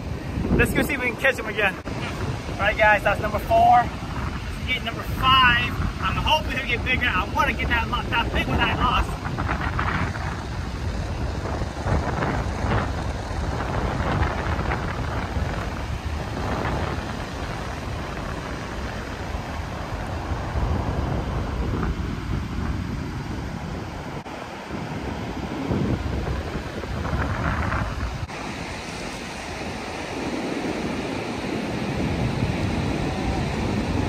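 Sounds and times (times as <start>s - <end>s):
ocean surf breaking: 0.0s - 34.0s
wind rumbling on microphone: 0.0s - 34.0s.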